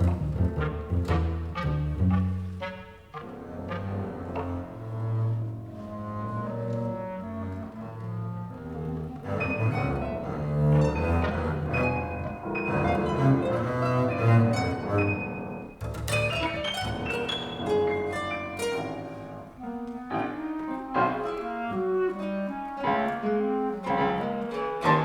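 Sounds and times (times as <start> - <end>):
chamber music ensemble: 0.0 - 25.0
low double bass notes: 0.0 - 25.0.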